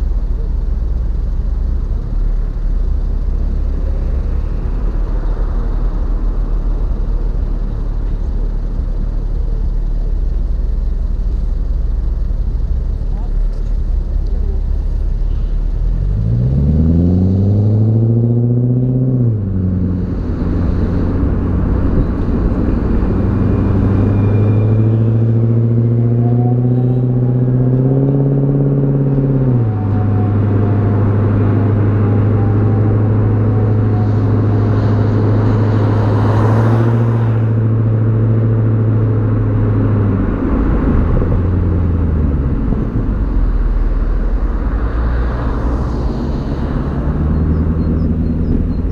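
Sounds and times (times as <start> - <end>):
car engine exhaust accelerating: 0.0 - 48.9
road and wind noise: 0.0 - 48.9.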